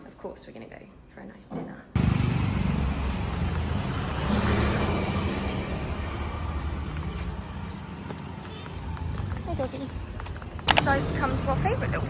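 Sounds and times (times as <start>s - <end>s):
road and wind noise: 2.0s - 12.0s
vehicle engine running: 2.0s - 12.0s.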